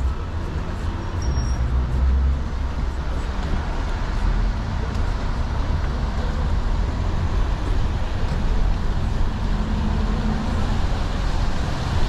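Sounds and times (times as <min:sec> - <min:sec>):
city traffic on wet street: 0:00.0 - 0:12.0.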